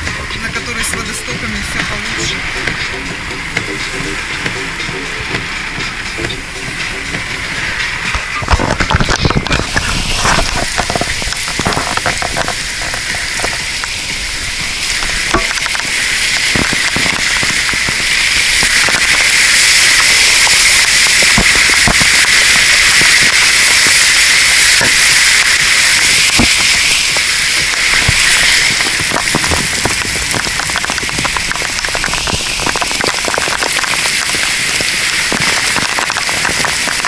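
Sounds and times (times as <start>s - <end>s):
rain pelting car roof: 0.0s - 37.0s.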